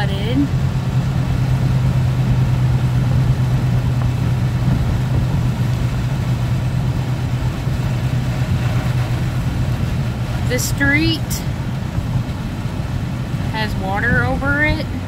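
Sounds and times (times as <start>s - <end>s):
car engine hum: 0.0s - 15.0s
tyres rumbling on wet road: 0.0s - 15.0s.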